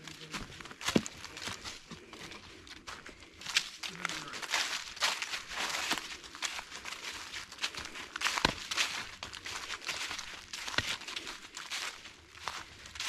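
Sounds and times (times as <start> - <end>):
footsteps on leaf litter: 0.0 - 13.0.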